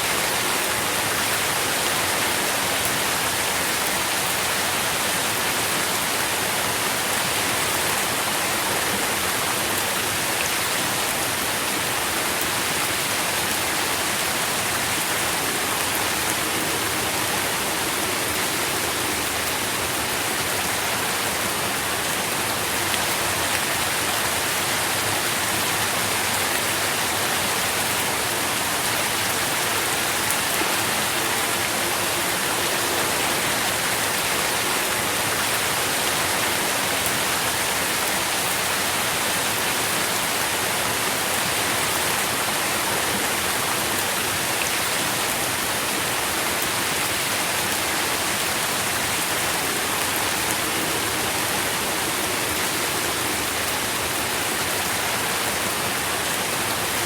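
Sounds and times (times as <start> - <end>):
rain on leaves and ground: 0.0 - 57.0.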